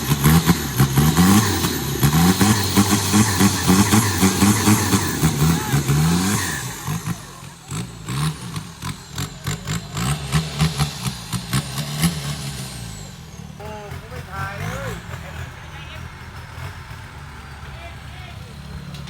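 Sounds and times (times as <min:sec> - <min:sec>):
engine revving in short bursts: 0:00.0 - 0:17.7.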